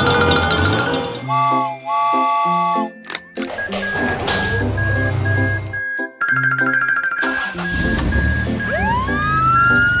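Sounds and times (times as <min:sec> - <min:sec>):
cartoon background music: 0:00.0 - 0:10.0.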